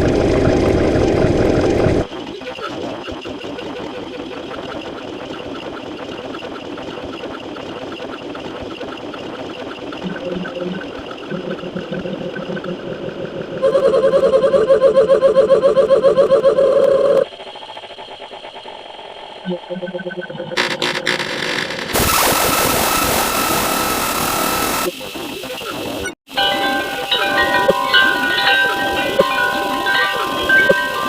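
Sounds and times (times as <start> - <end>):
buzzing drone with flutter: 0.0 - 31.0
rapidly pulsing tone: 0.0 - 31.0.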